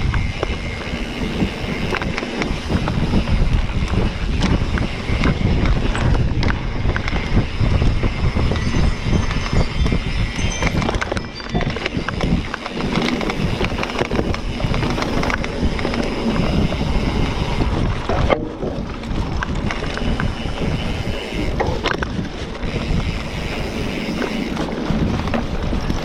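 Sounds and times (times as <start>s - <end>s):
bike rattling clicks and knocks: 0.0s - 26.0s
bike tyres rumbling over dirt: 0.0s - 26.0s
wind buffeting microphone: 0.0s - 26.0s.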